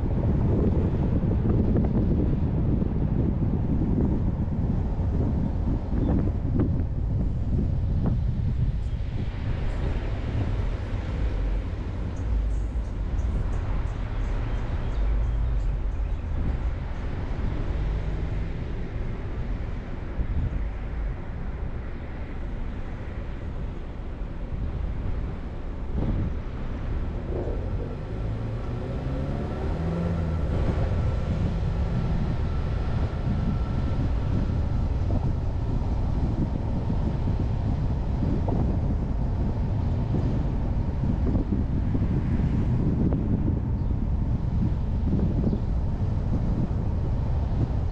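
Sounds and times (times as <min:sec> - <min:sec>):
car engine rumble: 0:00.0 - 0:47.9
road noise: 0:00.0 - 0:47.9.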